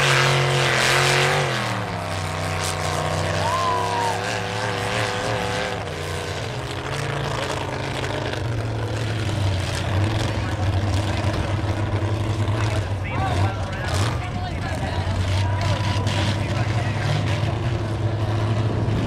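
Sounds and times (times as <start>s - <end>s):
truck engines running: 0.0s - 19.0s.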